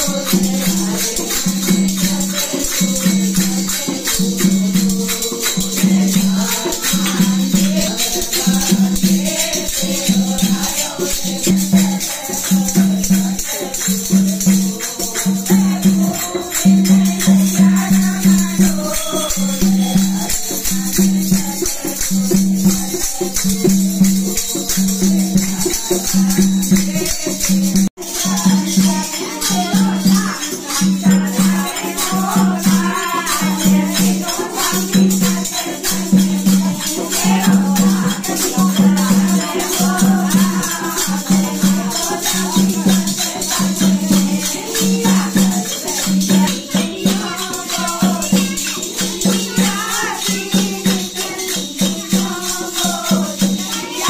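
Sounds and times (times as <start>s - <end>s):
jingling clappers and cymbals: 0.0s - 54.0s
women singing together: 0.0s - 54.0s.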